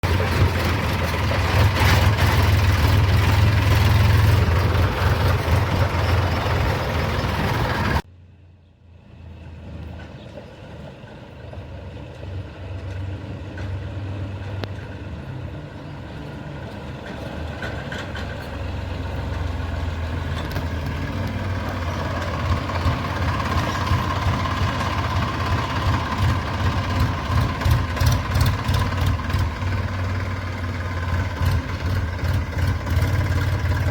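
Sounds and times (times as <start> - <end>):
pulsing engine: 0.0 - 8.0, 12.3 - 33.9
tractor engine running: 0.0 - 8.1, 9.8 - 33.9.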